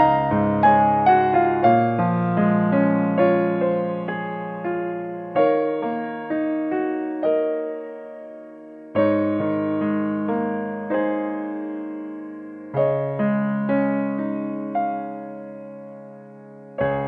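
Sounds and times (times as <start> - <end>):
slow electric piano chords: 0.0 - 17.0.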